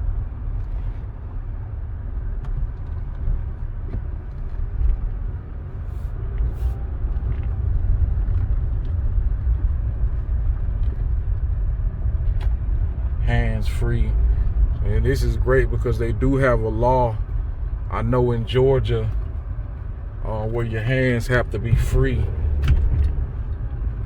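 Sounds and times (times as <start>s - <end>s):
car rumble from inside cabin: 0.0s - 24.0s.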